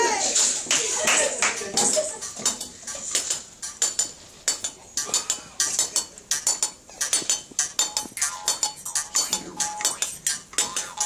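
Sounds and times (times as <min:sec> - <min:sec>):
bottles and cans struck and shaken: 0:01.7 - 0:11.0.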